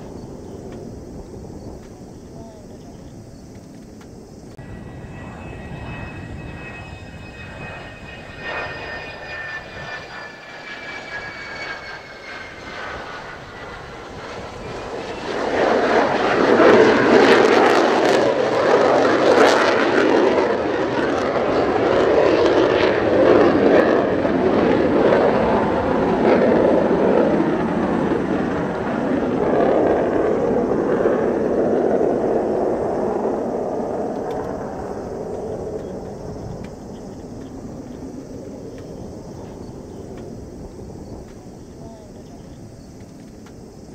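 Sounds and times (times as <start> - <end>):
jet whine: 0.0 - 43.9
loud jet roar: 4.0 - 43.9.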